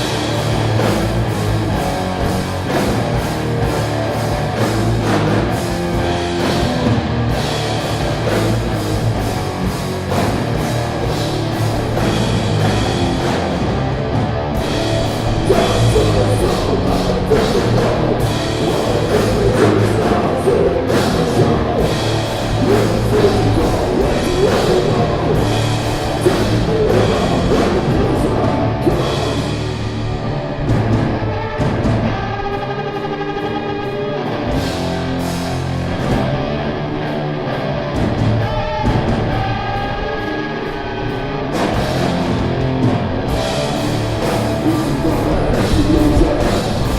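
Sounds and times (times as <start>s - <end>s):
metal band playing: 0.0s - 46.9s.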